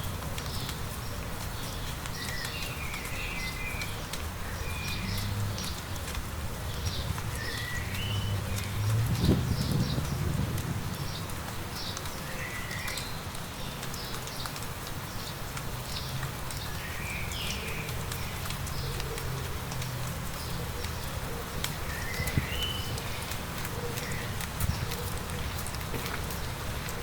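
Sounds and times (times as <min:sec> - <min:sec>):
rain patter and hiss: 0:00.0 - 0:27.0
raindrop ticks: 0:00.0 - 0:27.0.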